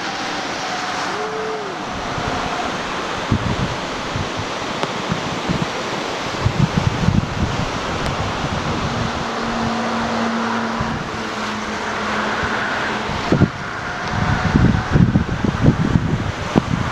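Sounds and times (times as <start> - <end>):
floodwater roaring: 0.0 - 16.9
wind buffeting microphone: 0.0 - 16.9.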